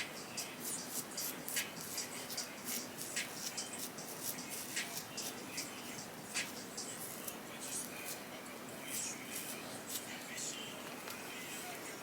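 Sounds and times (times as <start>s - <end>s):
brush scratching through hair: 0.0s - 10.3s.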